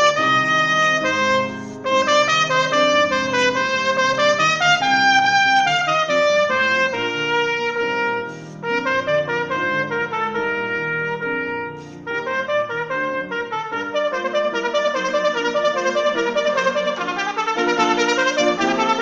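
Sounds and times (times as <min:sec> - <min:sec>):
piano accompaniment: 0:00.0 - 0:19.0
trumpet playing fast notes: 0:00.0 - 0:19.0.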